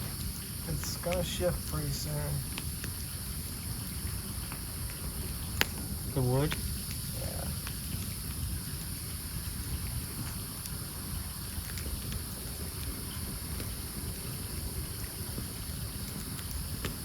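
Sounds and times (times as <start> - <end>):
campfire crackling: 0.0 - 17.0
fire rumble and hiss: 0.0 - 17.0.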